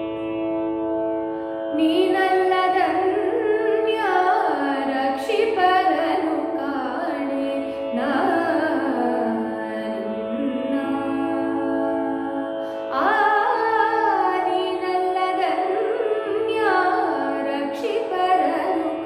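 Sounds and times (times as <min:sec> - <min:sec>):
woman singing devotional song: 0:01.7 - 0:19.0.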